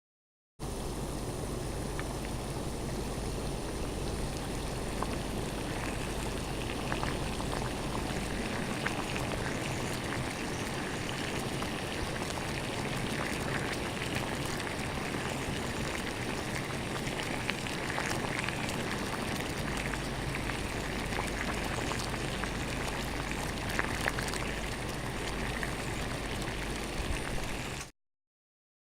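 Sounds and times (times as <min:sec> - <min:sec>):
water boiling: 0:00.6 - 0:27.9.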